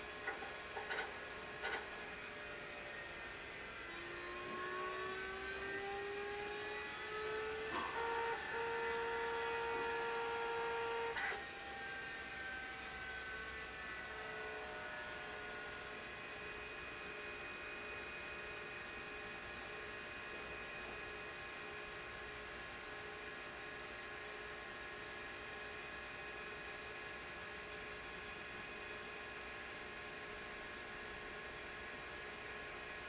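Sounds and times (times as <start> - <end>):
hard disk drive whining: 0.0 - 33.0.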